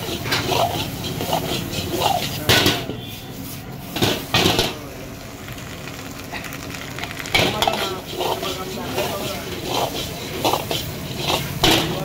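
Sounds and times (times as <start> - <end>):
ladle scraping against wok: 0.0 - 4.9, 6.2 - 12.0
frying sizzle: 0.0 - 12.0.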